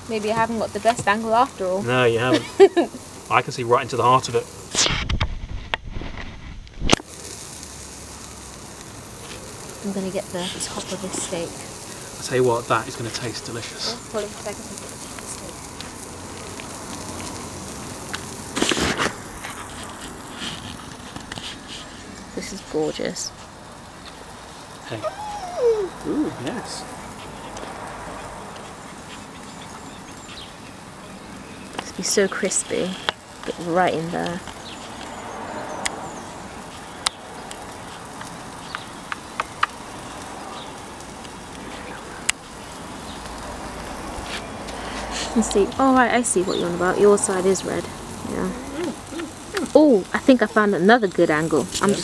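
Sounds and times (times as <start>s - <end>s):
coals crackling: 0.0s - 52.0s
steak sizzling over coals: 0.0s - 52.0s.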